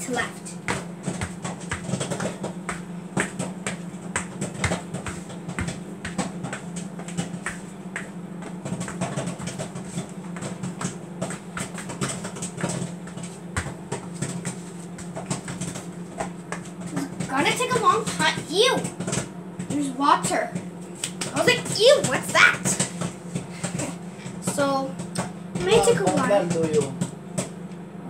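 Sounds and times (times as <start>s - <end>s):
popcorn popping: 0.0s - 27.6s
microwave oven humming: 0.0s - 28.0s.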